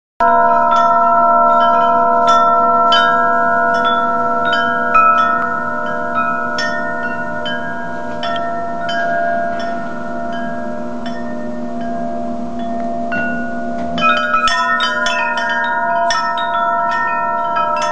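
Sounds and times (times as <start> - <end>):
deep steady hum: 0.2 - 17.9
wind chime ringing: 0.2 - 17.9.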